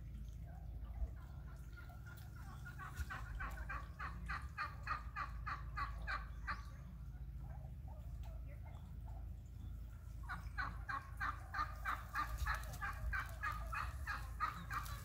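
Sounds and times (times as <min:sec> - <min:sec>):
turkeys calling: 0:00.6 - 0:15.0.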